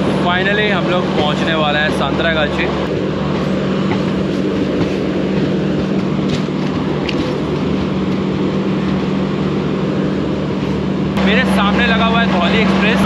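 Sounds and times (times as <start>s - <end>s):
constant low hum: 0.0s - 13.0s
train wheels rumbling on rails: 0.0s - 13.0s.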